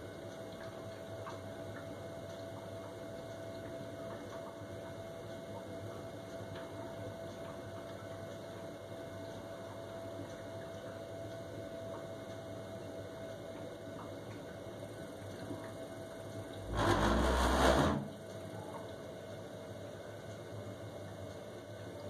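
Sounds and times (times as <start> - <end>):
boiler humming: 0.0 - 22.0.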